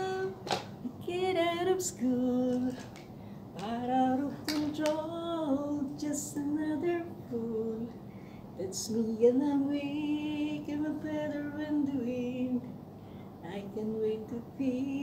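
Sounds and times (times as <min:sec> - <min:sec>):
woman singing slow melody: 0:00.0 - 0:15.0.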